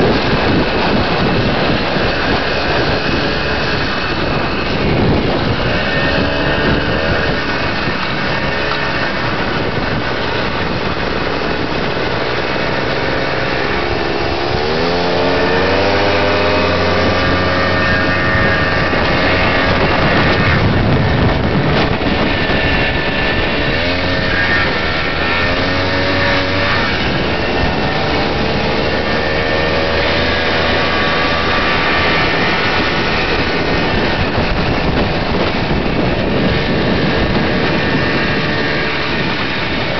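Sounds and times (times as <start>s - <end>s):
road and wind noise: 0.0s - 39.9s
two-stroke motorcycle engine: 0.0s - 39.9s.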